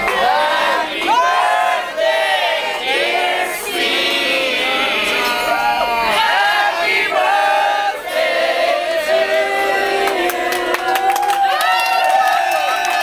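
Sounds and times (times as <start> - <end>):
group of people singing: 0.0 - 11.2.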